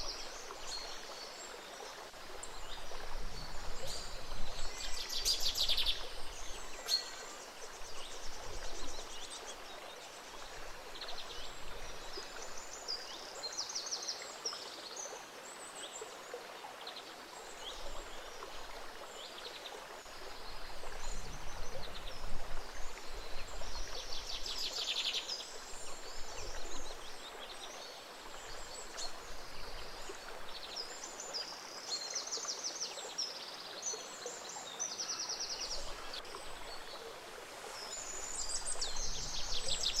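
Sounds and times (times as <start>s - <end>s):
small stream flowing: 0.0s - 40.0s.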